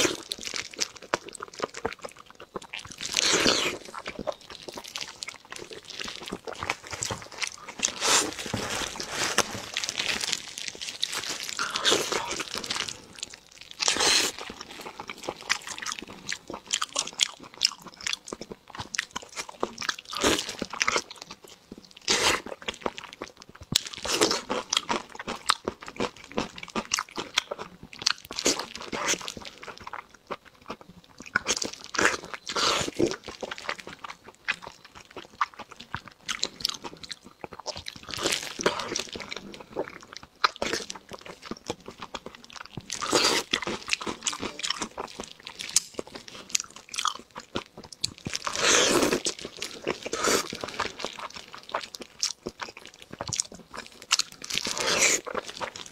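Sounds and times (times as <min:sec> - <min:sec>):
person crunching and chewing: 0:00.0 - 0:55.9.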